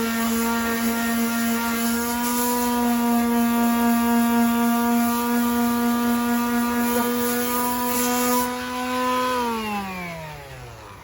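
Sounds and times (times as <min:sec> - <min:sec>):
power sander running: 0:00.0 - 0:11.0.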